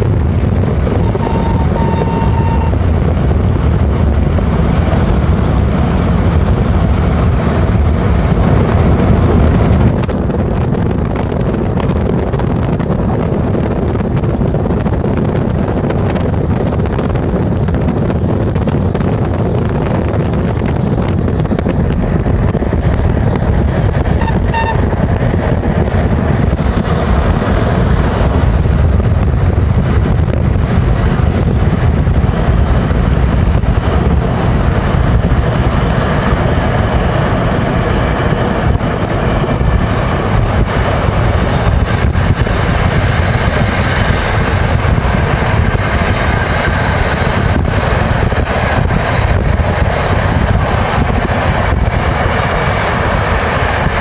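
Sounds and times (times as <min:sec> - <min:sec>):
road and wind noise inside car: 0:00.0 - 0:54.0.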